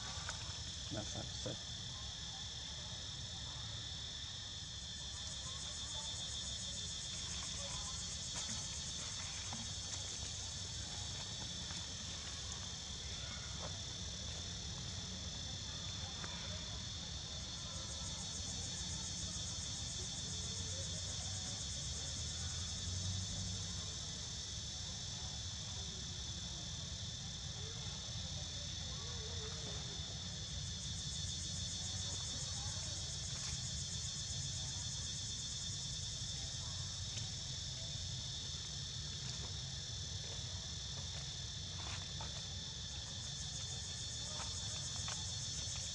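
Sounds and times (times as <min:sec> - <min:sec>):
insects chirring: 0:00.0 - 0:28.8, 0:29.9 - 0:45.9.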